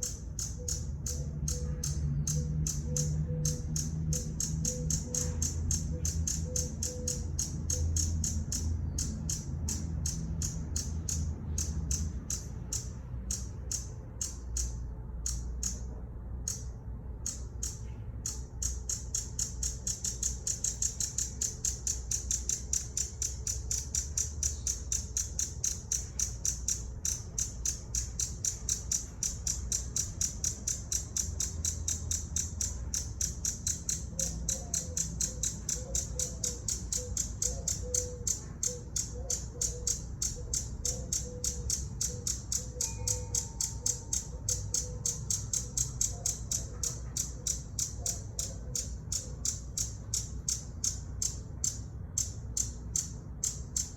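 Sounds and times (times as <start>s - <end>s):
hummingbird chipping: 0.0s - 53.9s.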